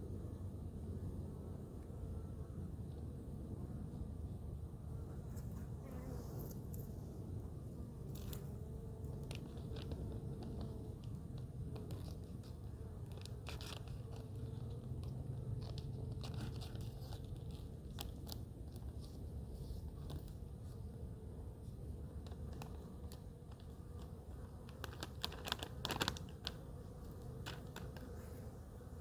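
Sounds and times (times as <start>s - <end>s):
steady low hum: 0.0s - 29.0s
hands working at beehive: 5.1s - 29.0s.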